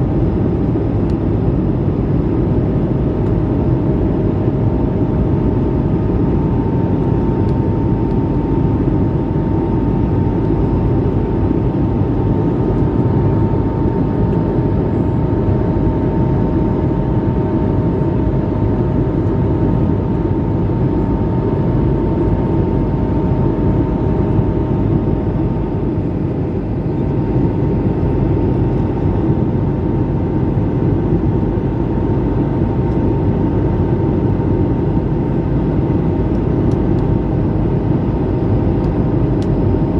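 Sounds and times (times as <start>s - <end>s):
faint steady humming tones: 0.0s - 39.9s
jet engine and airflow rush: 0.0s - 39.9s.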